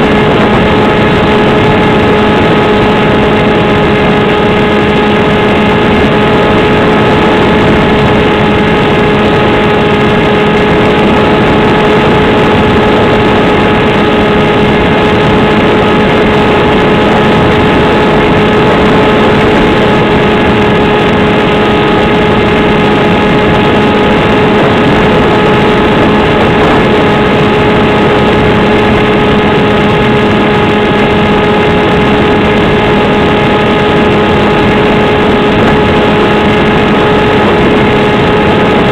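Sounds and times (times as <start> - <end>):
rushing air: 0.0 - 38.9.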